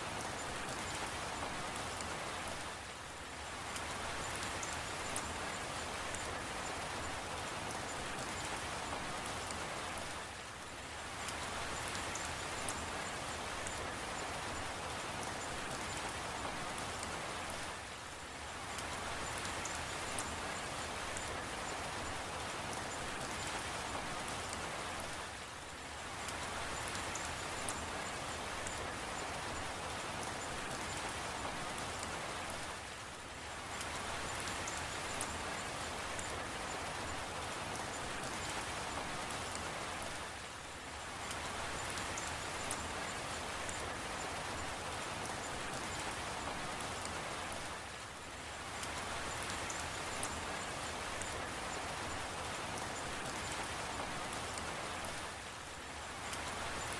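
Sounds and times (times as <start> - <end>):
small raindrop ticks: 0.0 - 56.9
steady rain falling: 0.0 - 56.9.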